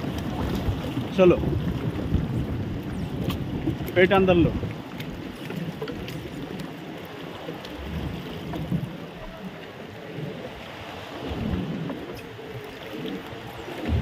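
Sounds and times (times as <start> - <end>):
sea water: 0.0 - 14.0
wind on microphone: 0.0 - 14.0.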